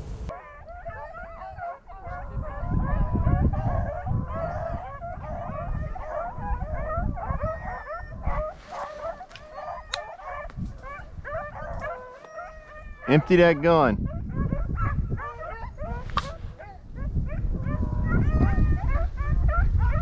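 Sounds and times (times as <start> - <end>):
wind rumbling on microphone: 0.0 - 20.0
dogs baying: 0.1 - 20.0.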